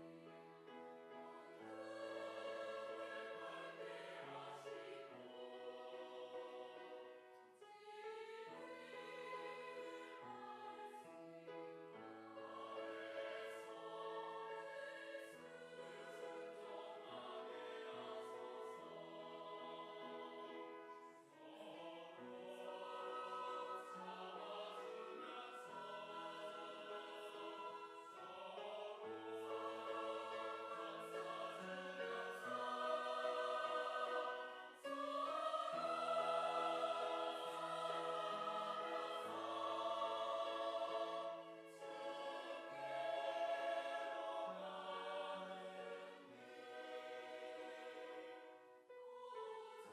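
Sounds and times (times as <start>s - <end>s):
church choir singing a hymn: 0.0s - 49.9s.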